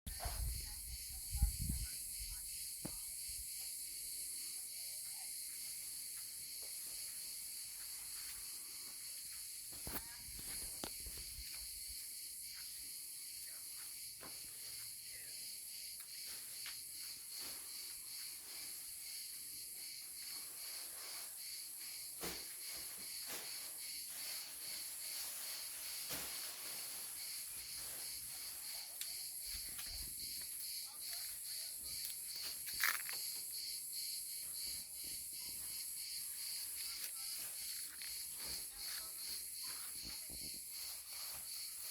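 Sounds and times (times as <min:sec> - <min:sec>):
insects trilling: 0:00.1 - 0:41.9.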